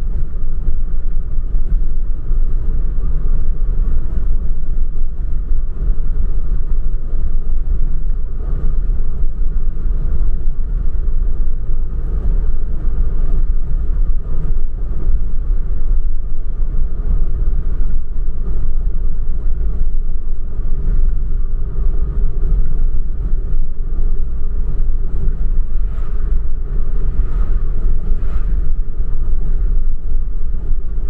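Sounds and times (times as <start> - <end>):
road and tyre noise: 0.0 - 31.0.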